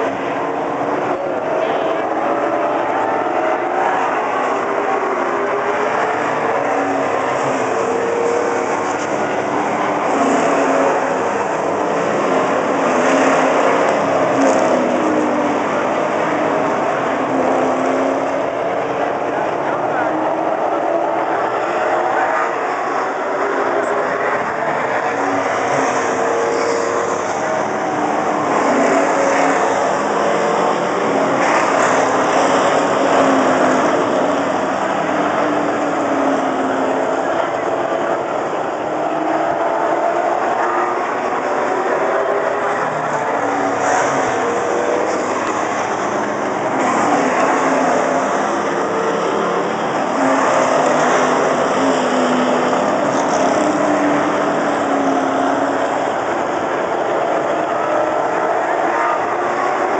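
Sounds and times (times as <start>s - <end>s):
race car engines roaring: 0.0s - 59.9s.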